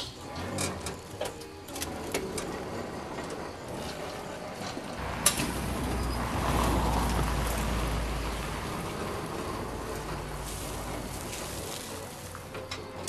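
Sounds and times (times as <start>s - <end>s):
gravel crunching and scraping: 1.9s - 13.0s.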